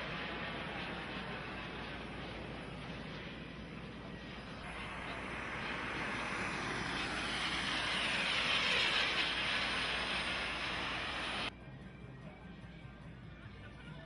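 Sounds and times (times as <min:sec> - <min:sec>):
model jet turbine fly-by: 0:00.0 - 0:11.6.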